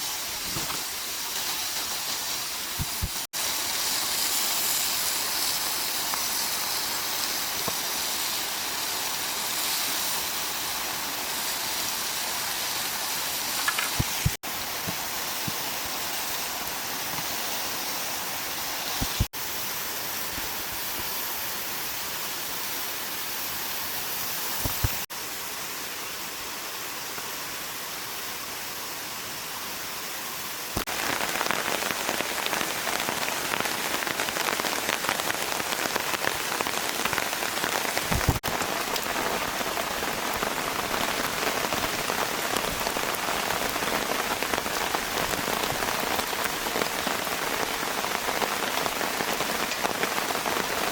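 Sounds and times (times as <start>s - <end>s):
rain falling: 0.0s - 29.4s, 30.0s - 50.9s.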